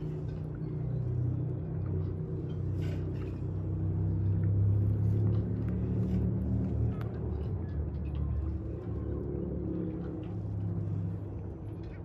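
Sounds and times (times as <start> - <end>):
low machine drone: 0.0 - 12.0.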